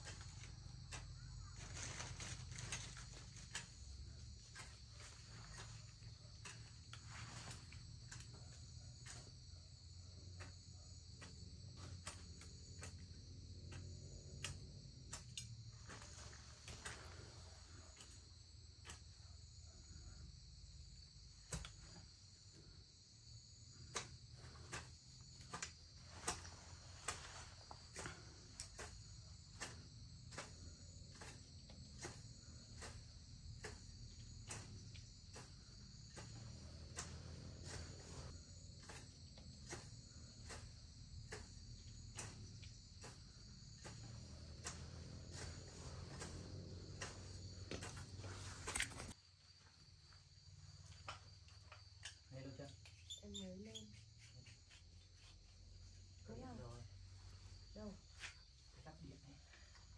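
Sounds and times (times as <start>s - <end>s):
crickets chirring: 0.0s - 59.9s
insect trill: 0.0s - 59.9s.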